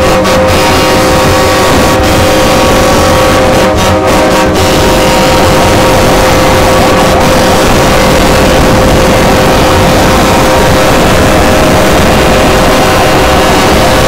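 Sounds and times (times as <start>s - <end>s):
loud vehicle engine running: 0.0s - 14.0s.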